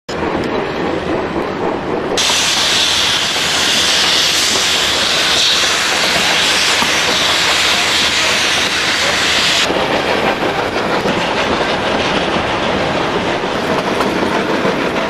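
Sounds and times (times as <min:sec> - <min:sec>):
moving train rumble: 0:00.1 - 0:15.0
steam locomotive hissing: 0:02.2 - 0:15.0.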